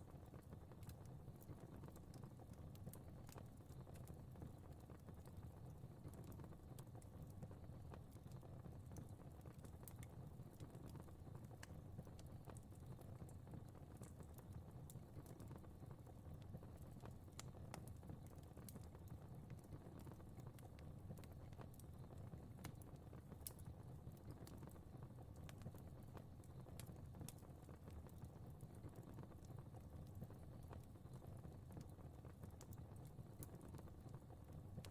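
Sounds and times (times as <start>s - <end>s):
fire crackling: 0.1s - 34.9s.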